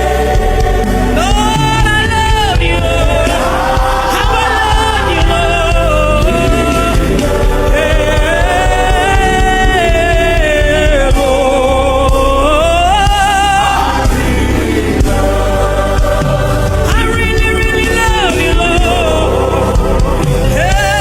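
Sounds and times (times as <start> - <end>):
choir singing: 0.0 - 21.0
instrumental backing: 0.0 - 21.0.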